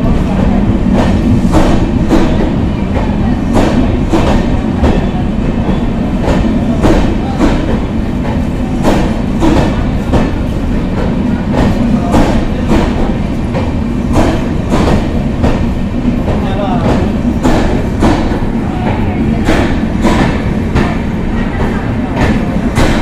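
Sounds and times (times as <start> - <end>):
clickety-clack over rail joints: 0.0 - 23.0
train wheels rumbling on rail: 0.0 - 23.0.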